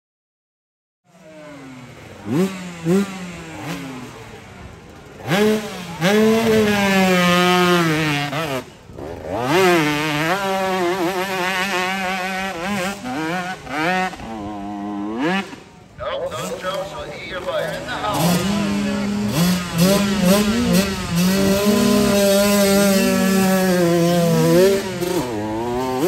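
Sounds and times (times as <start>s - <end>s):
dirt bike engine revving: 1.1s - 26.0s.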